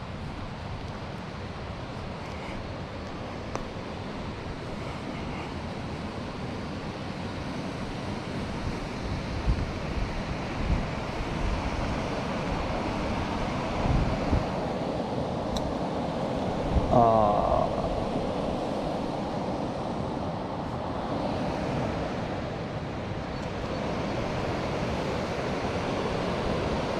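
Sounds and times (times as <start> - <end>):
river flowing: 0.0 - 26.9
wind buffeting microphone: 0.0 - 26.9.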